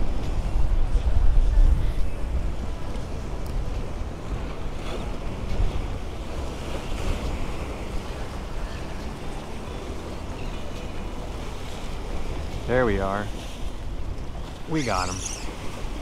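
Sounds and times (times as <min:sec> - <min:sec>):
small choppy waves: 0:00.0 - 0:16.0
wind buffeting microphone: 0:00.0 - 0:16.0.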